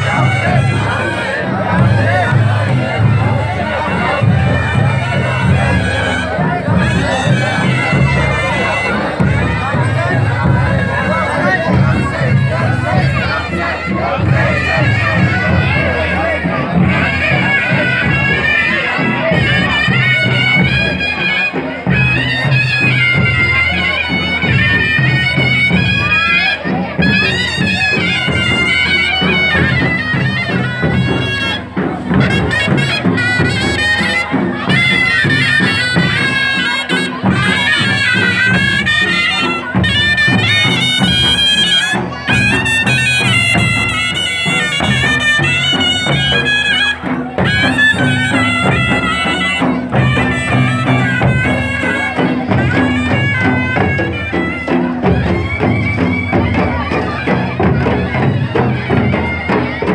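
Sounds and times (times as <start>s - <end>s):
shrill reed wind instrument: 0.0s - 59.9s.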